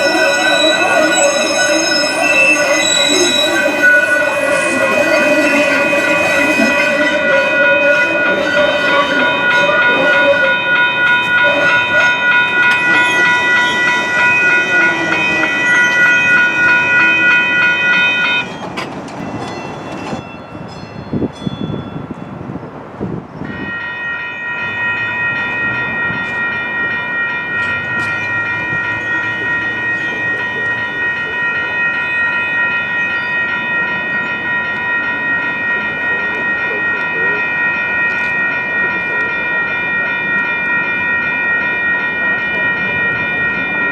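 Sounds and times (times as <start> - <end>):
crossing warning bells ringing: 0.0 - 43.9
rail rumble: 0.0 - 43.9.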